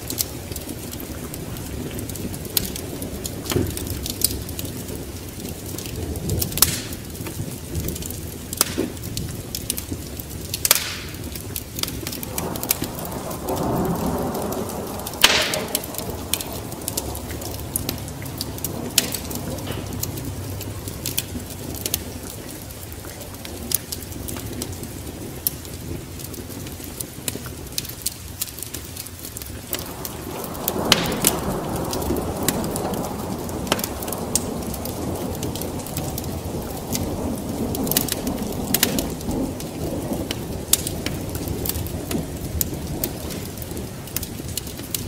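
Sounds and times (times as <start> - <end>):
rain: 0.0 - 45.0
thunder rumble: 0.0 - 45.0
wood fire crackling: 0.0 - 45.0.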